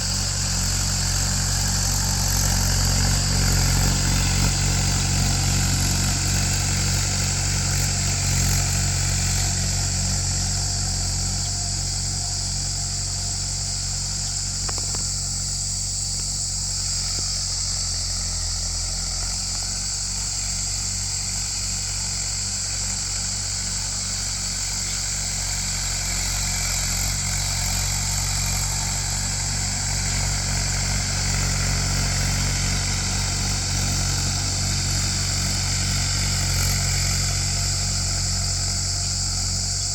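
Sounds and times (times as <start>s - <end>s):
tractor diesel engine running: 0.0s - 39.9s
steady high hiss: 2.4s - 39.9s.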